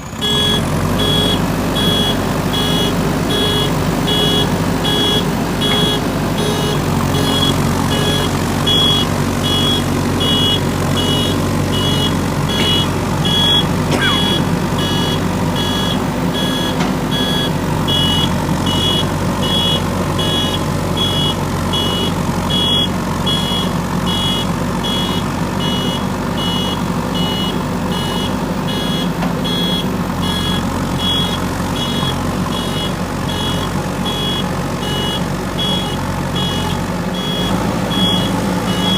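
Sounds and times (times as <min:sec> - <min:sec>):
backhoe diesel engine running: 0:00.0 - 0:38.9
reversing alarm beeps: 0:00.2 - 0:38.9.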